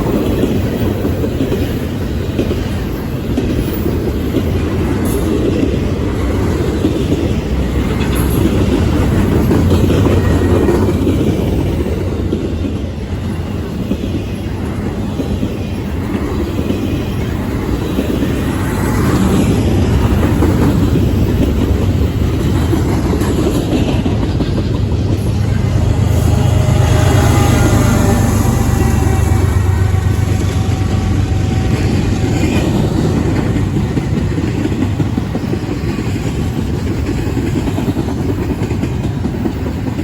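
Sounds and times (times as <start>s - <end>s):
freight train rumbling past: 0.0s - 40.0s
wheels clacking over rail joints: 0.0s - 40.0s.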